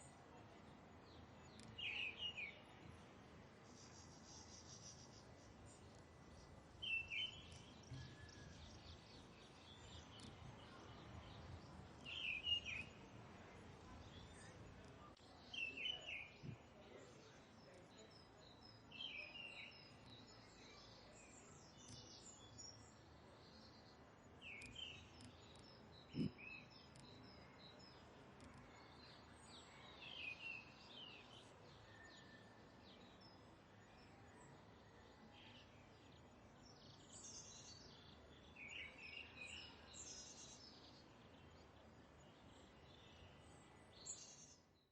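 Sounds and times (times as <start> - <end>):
quiet outdoor background noise: 0.0 - 44.9.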